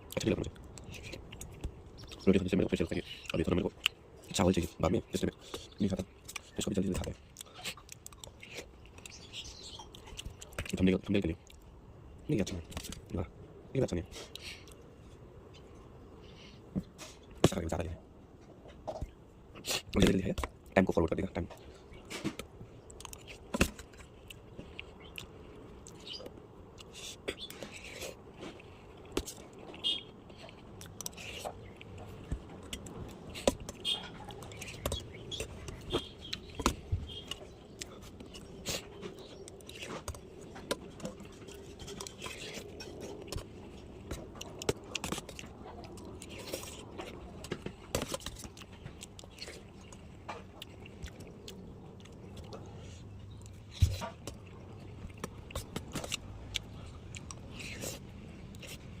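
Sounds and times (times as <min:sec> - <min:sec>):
person chewing food: 0:00.0 - 0:10.8, 0:14.1 - 0:15.2, 0:21.5 - 0:59.0.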